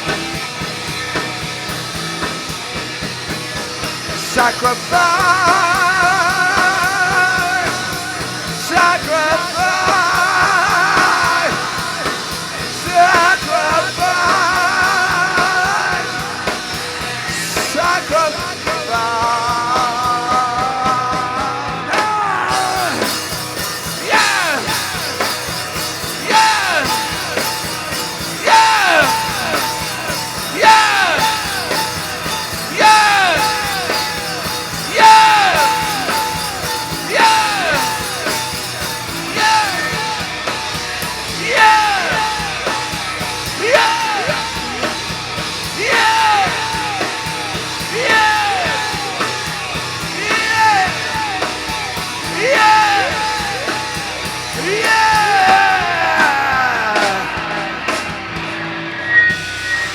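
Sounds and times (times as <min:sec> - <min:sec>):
live rock band playing: 0:00.0 - 0:59.9
yelled vocals: 0:00.0 - 0:59.9.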